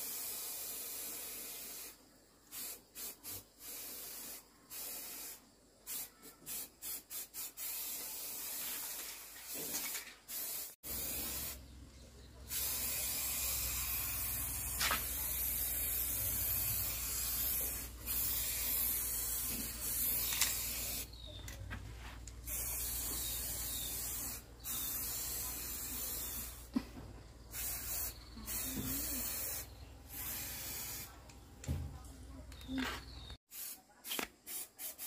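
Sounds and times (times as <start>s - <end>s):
spray paint can hissing: 0.0s - 11.6s, 12.4s - 26.8s, 27.5s - 31.4s, 33.4s - 35.0s.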